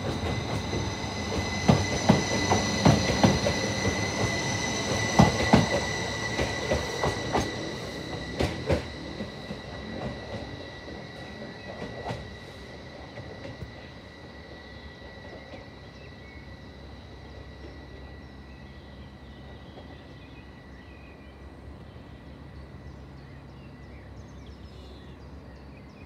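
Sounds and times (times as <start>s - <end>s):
electric train pulling away: 0.0s - 24.6s.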